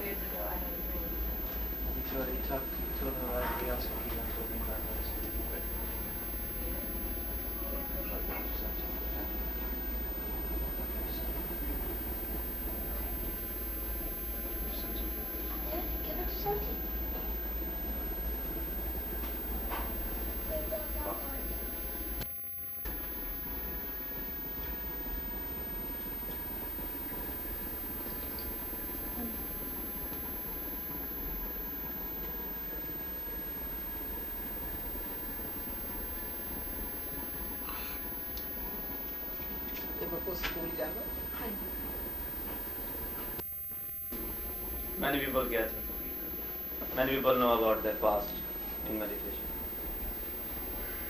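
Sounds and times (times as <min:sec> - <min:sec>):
old recording hum and hiss: 0:00.0 - 0:51.0.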